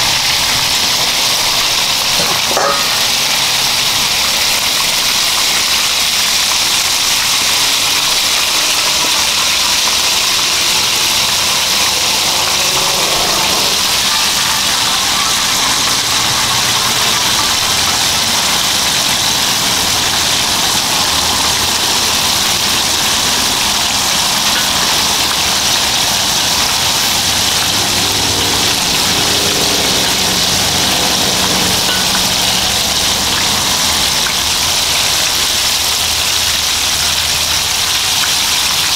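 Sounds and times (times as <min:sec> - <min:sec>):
food sizzling in a wok: 0:00.0 - 0:38.9
gas burner roar: 0:00.0 - 0:38.9.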